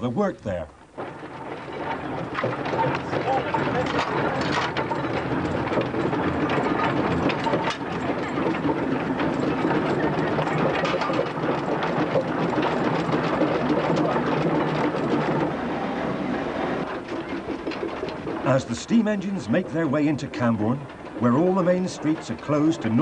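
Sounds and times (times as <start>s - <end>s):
steam engine mechanical clatter: 0.9s - 23.0s.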